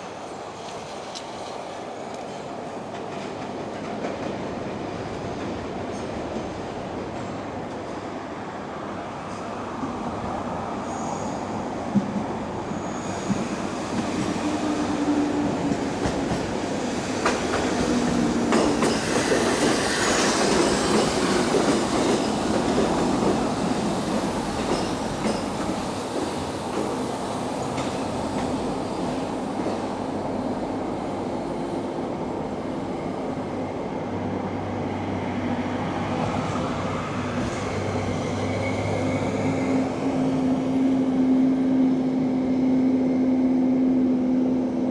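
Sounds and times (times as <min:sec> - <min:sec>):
train wheels rolling on track: 0:00.0 - 0:44.9.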